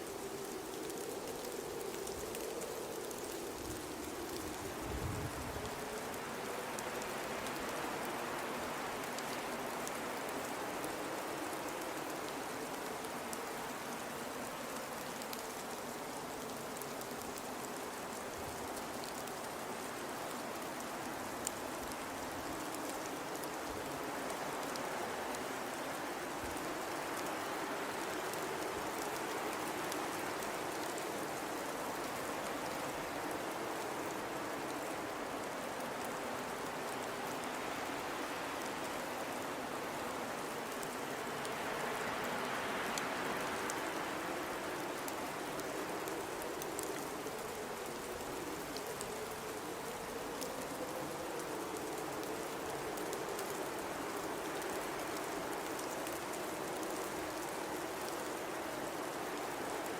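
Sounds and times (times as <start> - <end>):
blizzard wind howling: 0.0 - 59.9.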